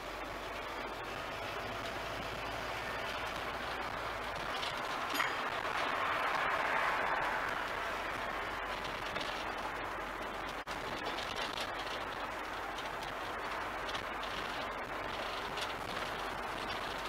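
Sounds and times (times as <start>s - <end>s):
road and traffic noise: 0.0s - 17.0s
wind noise: 0.1s - 17.0s.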